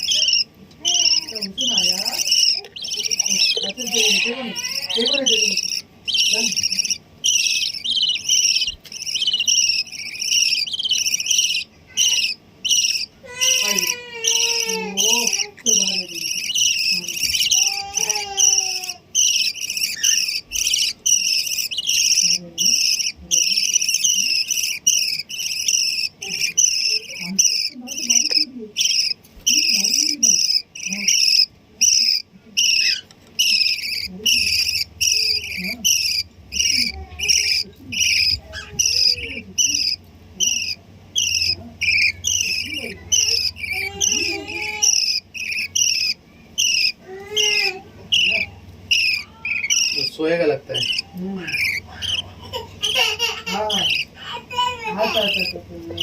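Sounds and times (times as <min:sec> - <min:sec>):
bird chicks chirping: 0:00.0 - 0:56.0.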